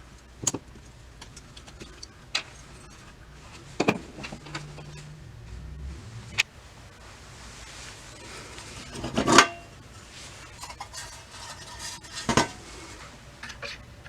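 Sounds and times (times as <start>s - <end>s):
metal tools clinking and clanking: 0.4s - 6.4s, 8.1s - 13.9s.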